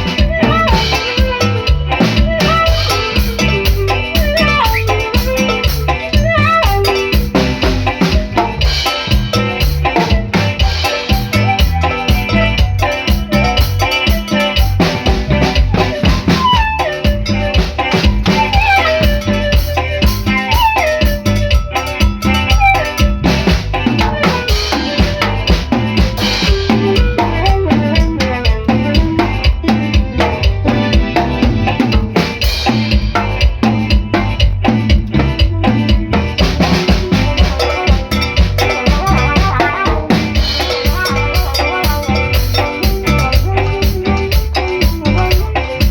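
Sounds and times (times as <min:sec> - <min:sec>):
bass line: 0:00.0 - 0:45.9
drum kit fast rhythm: 0:00.0 - 0:45.9
keyboard melody: 0:00.0 - 0:45.9.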